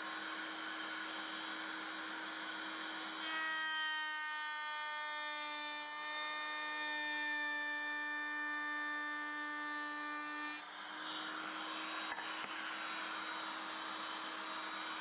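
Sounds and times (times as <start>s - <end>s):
woodworking power tool cutting: 0.0s - 15.0s.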